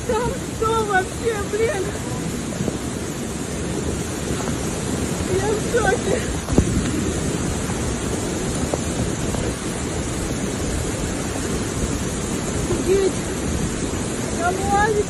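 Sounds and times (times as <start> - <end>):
mudflow water rushing: 0.0 - 15.0.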